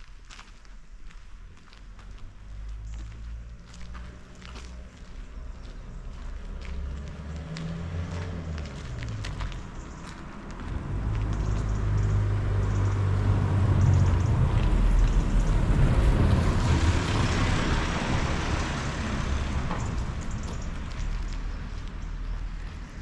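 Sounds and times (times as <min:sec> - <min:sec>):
tyre and road noise: 0:00.0 - 0:23.0
vehicle engine hum: 0:00.0 - 0:23.0.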